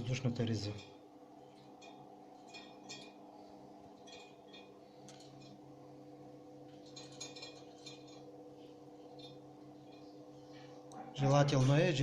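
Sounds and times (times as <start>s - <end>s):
stove fan humming: 0.0s - 12.0s.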